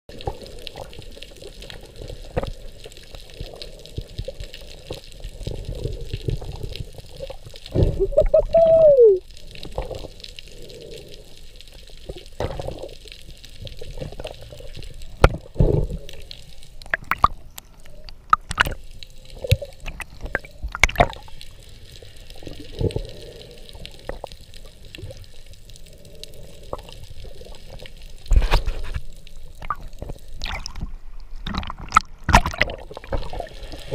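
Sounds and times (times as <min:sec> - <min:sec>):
muffled underwater hiss: 0:00.1 - 0:31.4, 0:32.7 - 0:33.9.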